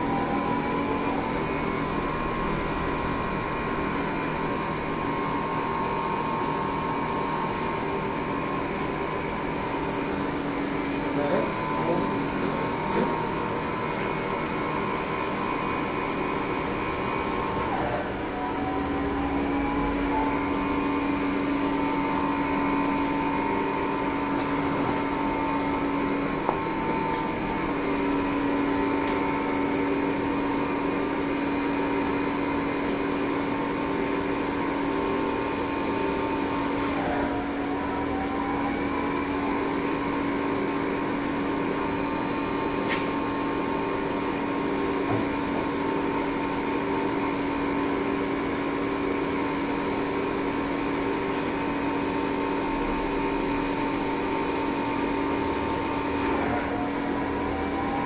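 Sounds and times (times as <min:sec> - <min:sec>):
lathe spindle whine: 0:00.0 - 0:58.0.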